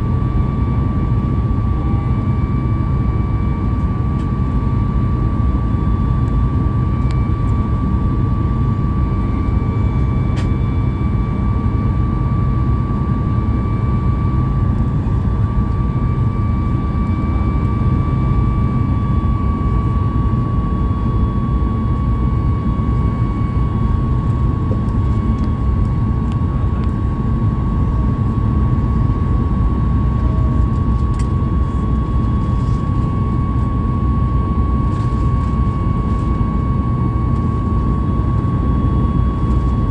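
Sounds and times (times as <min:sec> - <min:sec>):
high-pitched fan whine: 0:00.0 - 0:39.9
jet engine roar in cabin: 0:00.0 - 0:39.9.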